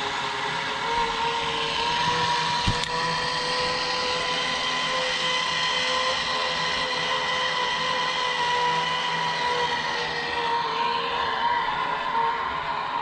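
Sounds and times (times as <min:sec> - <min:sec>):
zipline pulleys whining on cable: 0:00.0 - 0:13.0.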